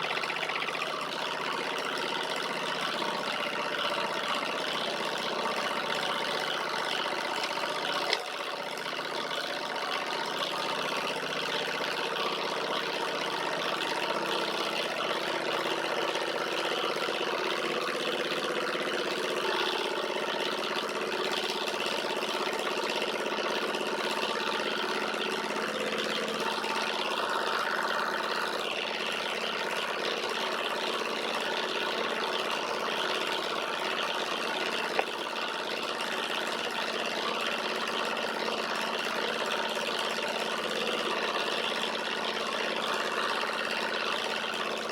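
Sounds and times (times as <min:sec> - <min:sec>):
engine mechanical whirr: 0:00.0 - 0:44.9.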